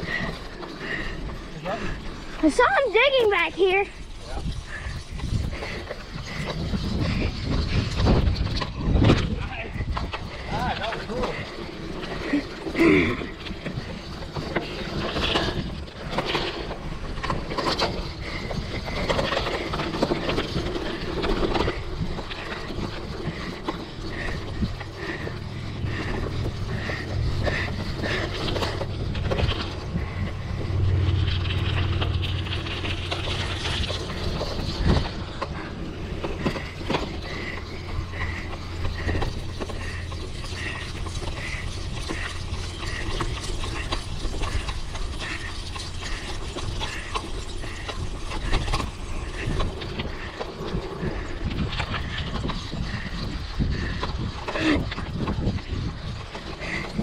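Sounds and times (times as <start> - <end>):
bike mechanical ticking: 0.0 - 57.0
bike tyres rumbling on dirt: 0.0 - 57.0
wind: 0.0 - 57.0.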